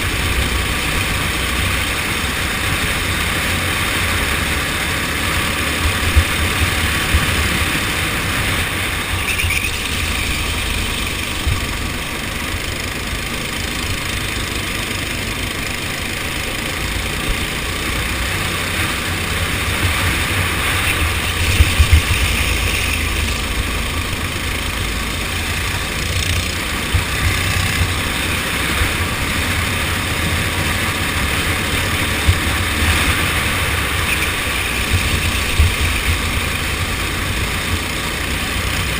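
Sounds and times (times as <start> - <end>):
go-kart engine drone: 0.0 - 38.9.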